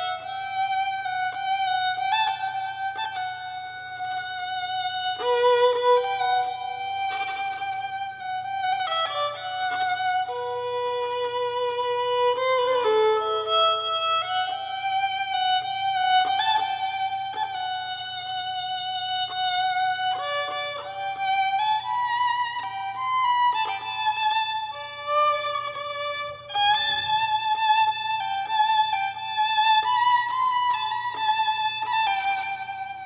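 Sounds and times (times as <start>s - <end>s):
solo violin melody: 0.0s - 33.0s.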